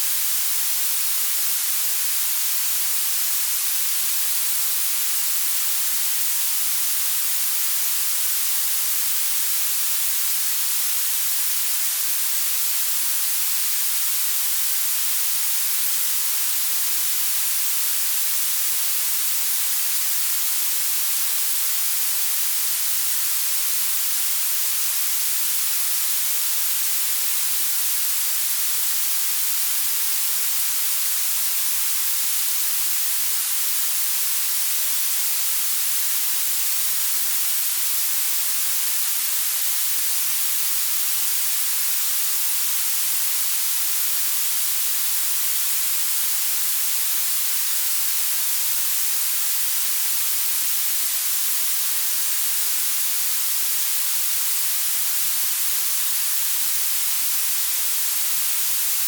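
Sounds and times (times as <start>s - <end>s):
bright steady hiss: 0.0s - 59.0s.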